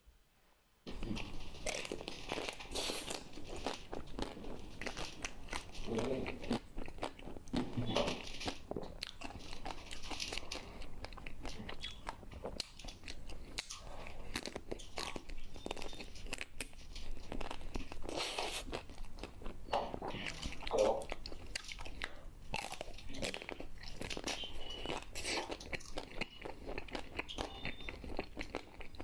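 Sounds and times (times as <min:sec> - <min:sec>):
crunching and chewing snack: 0:00.9 - 0:29.0.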